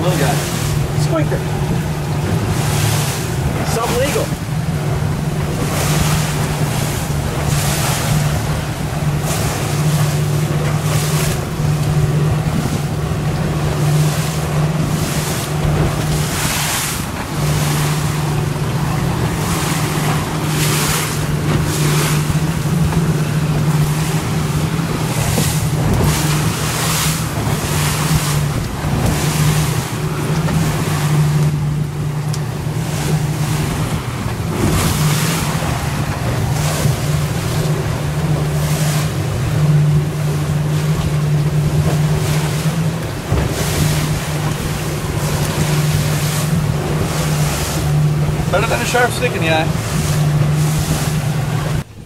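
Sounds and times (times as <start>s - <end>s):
motorboat engine humming: 0.0s - 52.0s
water washing against hull: 0.0s - 52.0s
wind buffeting microphone: 0.0s - 52.0s.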